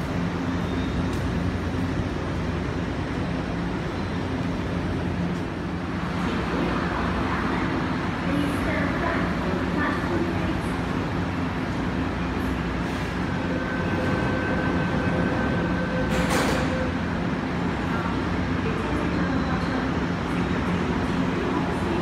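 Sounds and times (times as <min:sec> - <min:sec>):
train running with rumble: 0:00.0 - 0:22.0.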